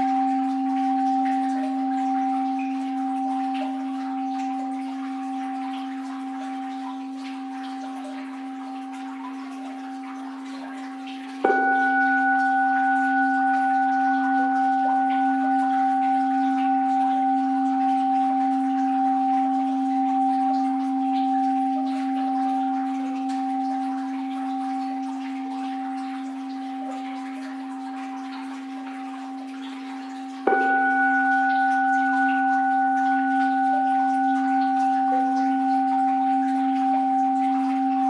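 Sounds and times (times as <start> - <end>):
faint flowing water: 0.0 - 38.0
singing bowl bell ringing: 0.0 - 38.0.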